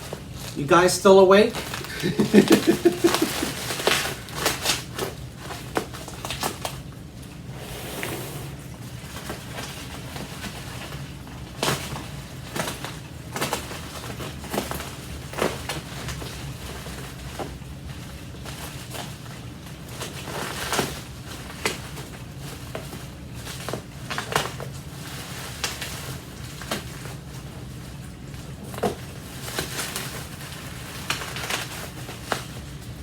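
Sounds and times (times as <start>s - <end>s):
packing material rustling: 1.4s - 17.7s, 18.3s - 33.0s.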